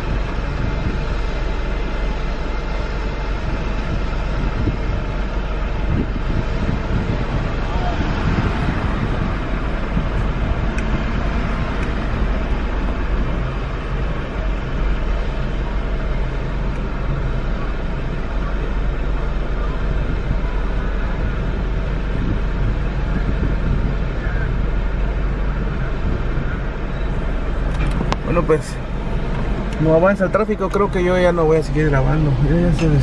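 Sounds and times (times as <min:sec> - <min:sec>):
car engine rumbling: 0:00.0 - 0:33.0
road noise: 0:00.0 - 0:33.0.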